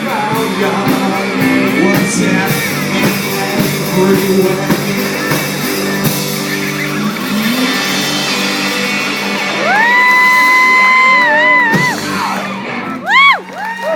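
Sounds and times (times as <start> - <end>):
blues-rock band playing: 0.0 - 13.9.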